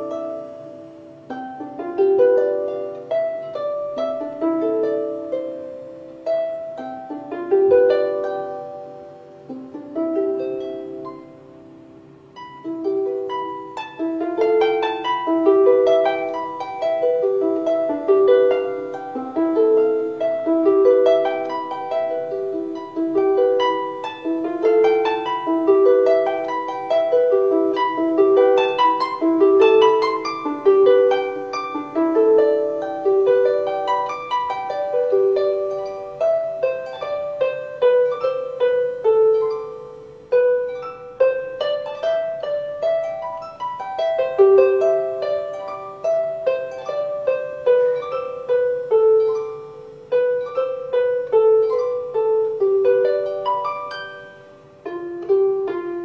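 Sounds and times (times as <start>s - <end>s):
solo harp playing: 0.0s - 56.0s.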